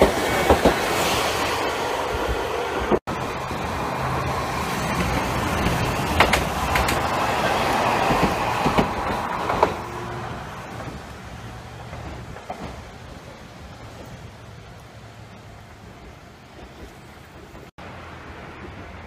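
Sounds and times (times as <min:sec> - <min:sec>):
tram running on track: 0:00.0 - 0:19.0
wheels clacking over rail joints: 0:02.2 - 0:19.0.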